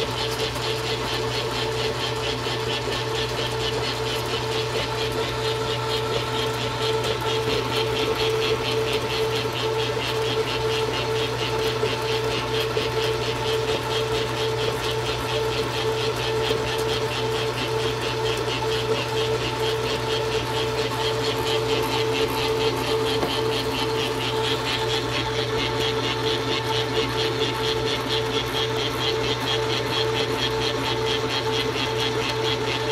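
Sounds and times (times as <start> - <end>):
stand mixer motor hum: 0.0 - 32.9.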